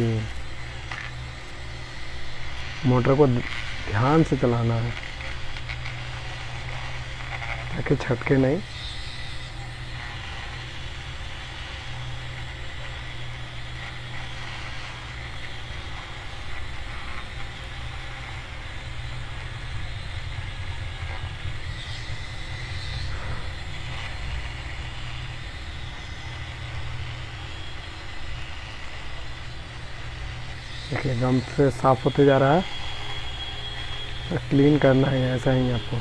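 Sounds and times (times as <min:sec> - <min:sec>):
small electric motor whining: 0:00.0 - 0:36.0.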